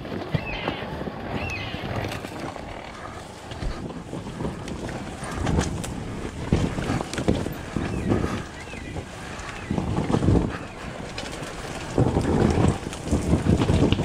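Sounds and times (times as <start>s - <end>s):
dirt bike engine at low revs: 0.0s - 14.0s
wind buffeting microphone: 0.0s - 14.0s.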